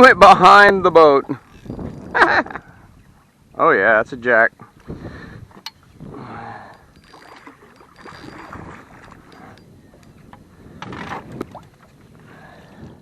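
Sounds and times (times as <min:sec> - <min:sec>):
water noise: 0:00.0 - 0:13.0
wind noise: 0:00.0 - 0:13.0.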